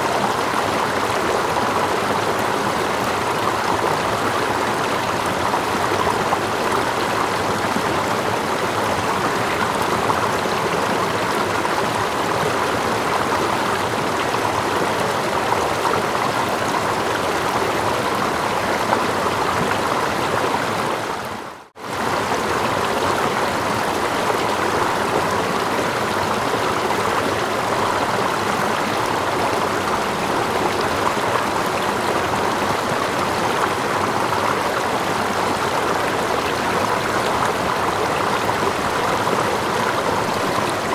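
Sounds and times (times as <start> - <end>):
small waterfall: 0.0 - 40.9
stream rushing: 0.0 - 40.9.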